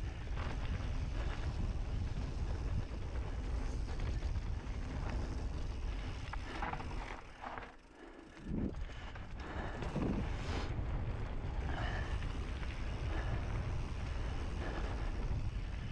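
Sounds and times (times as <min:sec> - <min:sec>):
wind buffeting microphone: 0:00.0 - 0:07.1, 0:08.4 - 0:15.9
bike tyres rumbling over dirt: 0:00.0 - 0:15.9.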